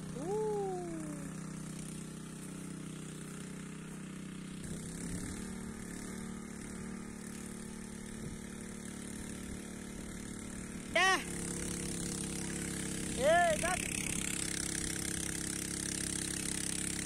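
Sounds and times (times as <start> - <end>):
petrol water pump running: 0.0 - 17.0.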